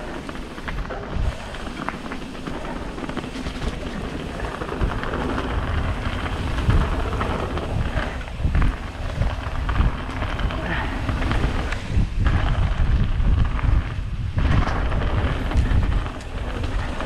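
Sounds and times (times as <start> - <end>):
bike rattling over bumps: 0.0 - 17.0
tyres rolling over gravel: 0.0 - 17.0
wind buffeting camera: 0.0 - 17.0.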